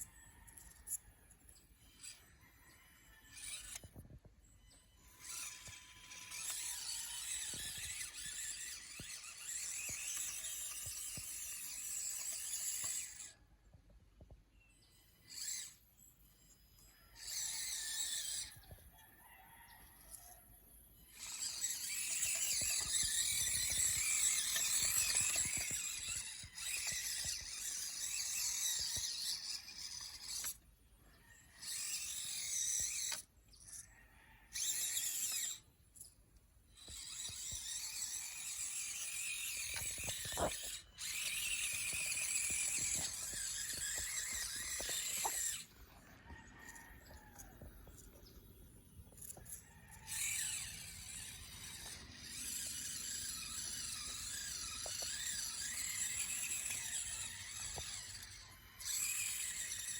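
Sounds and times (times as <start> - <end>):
toy truck motor whining: 0.0 - 59.9.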